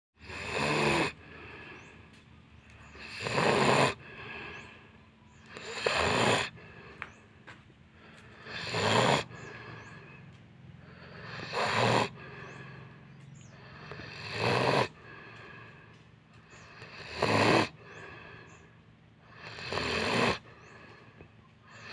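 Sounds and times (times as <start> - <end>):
person snoring: 0.2 - 2.0, 2.9 - 7.0, 8.0 - 10.2, 10.8 - 15.9, 16.6 - 18.6, 19.2 - 21.9
quiet breathing: 1.1 - 3.1, 3.9 - 17.1, 17.7 - 19.7, 20.4 - 21.9.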